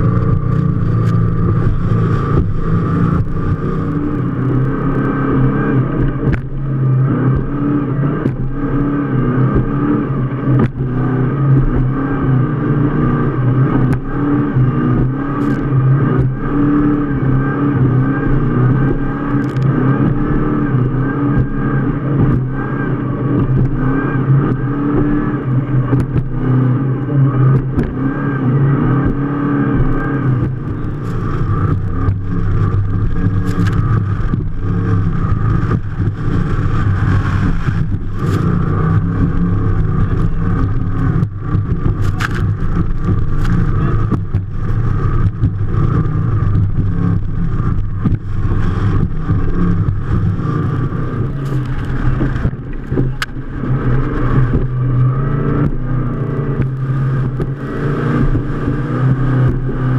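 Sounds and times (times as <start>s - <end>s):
powerboat engine droning: 0.0s - 59.9s.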